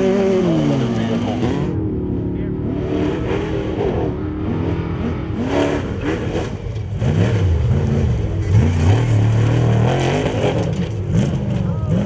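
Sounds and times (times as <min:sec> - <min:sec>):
race vehicle engine revving: 0:00.0 - 0:12.0.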